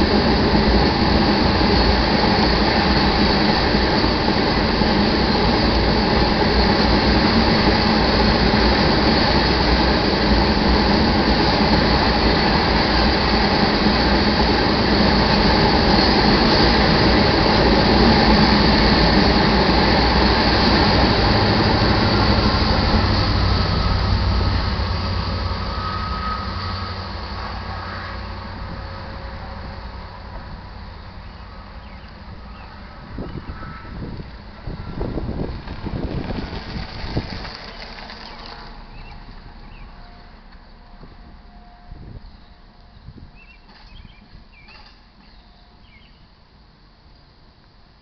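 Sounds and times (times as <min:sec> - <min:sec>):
freight train rumbling and rattling: 0:00.0 - 0:48.0.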